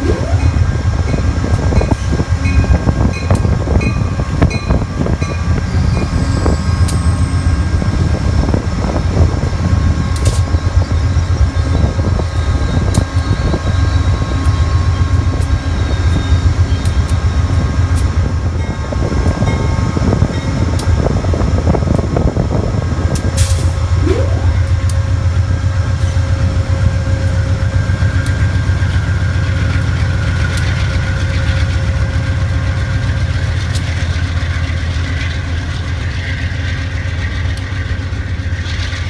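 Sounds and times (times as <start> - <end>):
diesel locomotive humming: 0.0 - 39.0
train coaches rumbling past: 0.0 - 39.0
wheels clicking on rails: 0.0 - 39.0.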